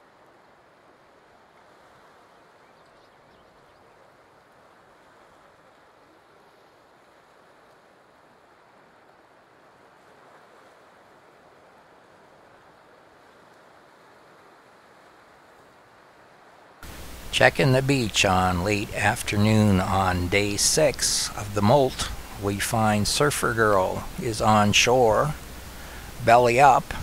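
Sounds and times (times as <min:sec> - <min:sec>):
faint surf hiss: 0:00.0 - 0:27.0.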